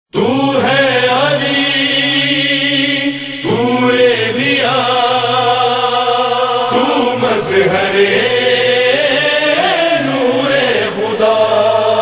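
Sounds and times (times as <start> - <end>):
wordless vocal chant: 0.1 - 12.0.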